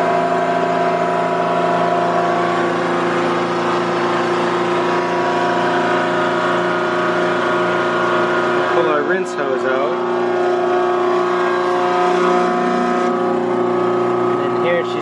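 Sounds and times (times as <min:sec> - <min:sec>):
machine drone: 0:00.0 - 0:15.0.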